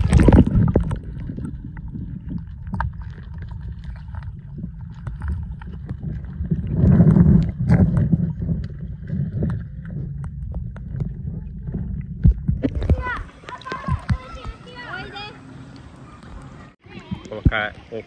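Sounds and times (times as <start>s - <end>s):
small underwater clicks and knocks: 0.0s - 14.7s
low underwater rumble: 0.0s - 17.4s.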